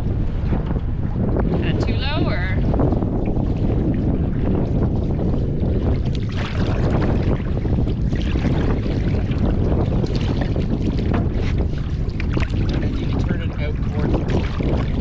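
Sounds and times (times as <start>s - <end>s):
paddle strokes splashing: 0.0s - 15.0s
waves lapping against hull: 0.0s - 15.0s
wind rumbling on microphone: 0.0s - 15.0s.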